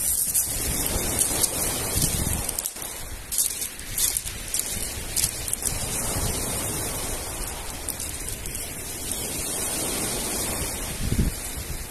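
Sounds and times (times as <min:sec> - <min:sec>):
waves washing onto pebble beach: 0:00.0 - 0:11.9.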